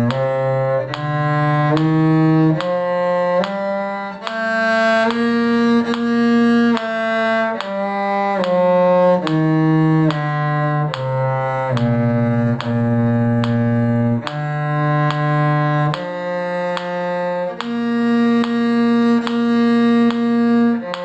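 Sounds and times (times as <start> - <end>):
cello playing a scale: 0.0 - 21.0.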